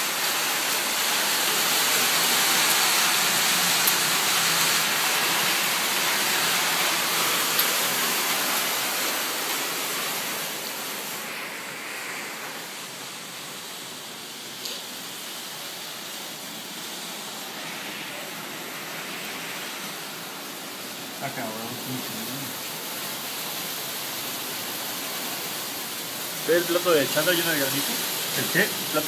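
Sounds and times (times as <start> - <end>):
heavy rain and hail: 0.0 - 29.0.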